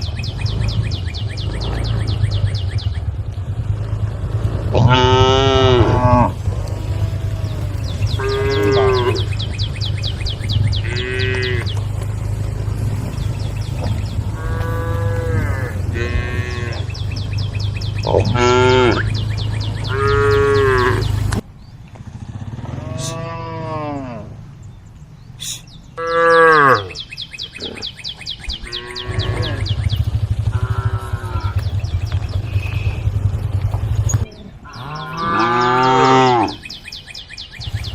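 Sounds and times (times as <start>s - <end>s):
cows mooing: 0.0s - 2.4s, 3.5s - 21.4s, 22.5s - 24.5s, 26.0s - 27.9s, 28.6s - 36.8s.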